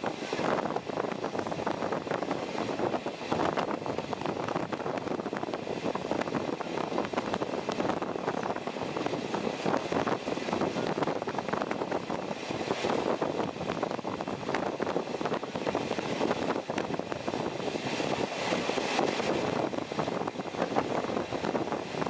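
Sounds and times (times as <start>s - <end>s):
train wheels rumbling on rails: 0.0s - 22.0s
wind noise: 0.0s - 22.0s.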